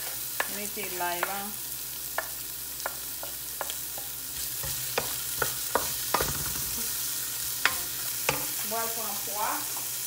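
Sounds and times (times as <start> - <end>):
food sizzling in metal pan: 0.0 - 10.0.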